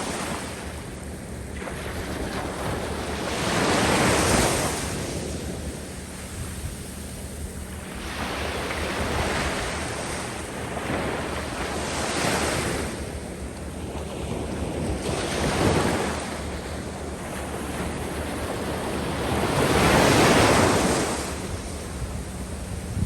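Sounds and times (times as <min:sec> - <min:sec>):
sea waves breaking on sand: 0:00.0 - 0:23.0
wind buffeting microphone: 0:01.6 - 0:23.0.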